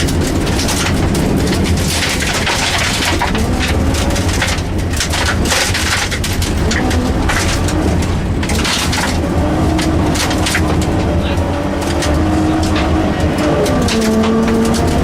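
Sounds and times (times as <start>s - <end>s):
car engine drone inside cabin: 0.0s - 15.0s
gravel rattling against underside: 0.0s - 15.0s.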